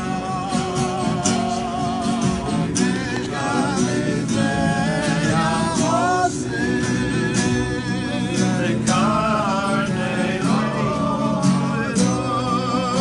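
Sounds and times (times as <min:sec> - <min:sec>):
men singing together: 0:00.0 - 0:13.0
strummed acoustic guitar: 0:00.0 - 0:13.0.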